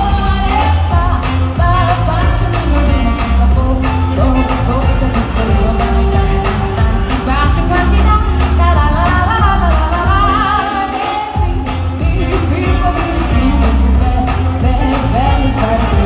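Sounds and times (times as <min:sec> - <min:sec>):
bass guitar: 0:00.0 - 0:16.0
lead vocal singing: 0:00.0 - 0:16.0
live band playing pop song: 0:00.0 - 0:16.0.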